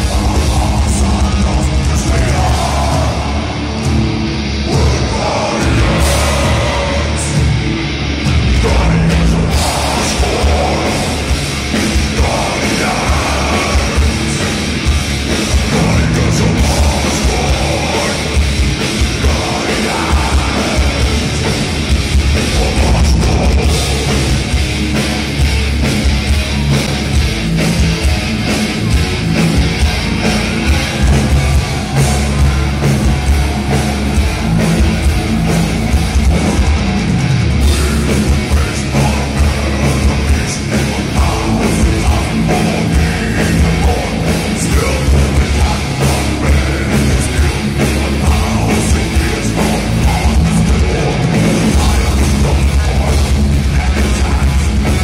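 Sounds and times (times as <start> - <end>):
bass and drums: 0.0 - 55.0
distorted guitars: 0.0 - 55.0.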